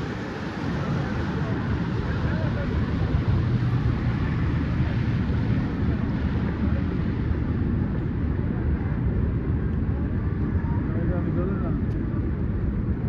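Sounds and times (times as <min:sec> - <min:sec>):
faint voices: 0:00.0 - 0:13.0
low rumble of traffic: 0:00.0 - 0:13.0.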